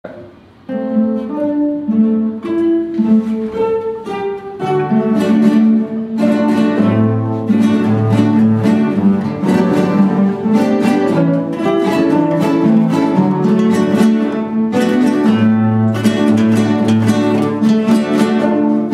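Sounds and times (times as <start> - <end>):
classical guitars playing: 0.0 - 18.9.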